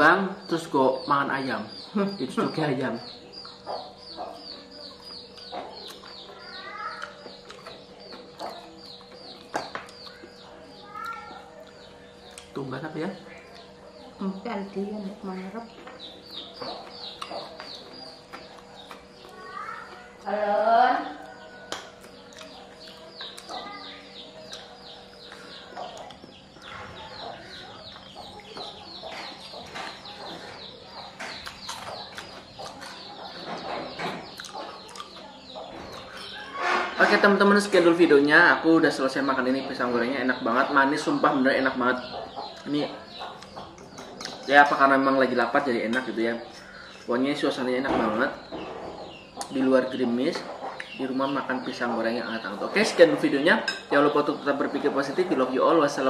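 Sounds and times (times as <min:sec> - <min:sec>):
chickens peeping: 0:00.0 - 0:56.0.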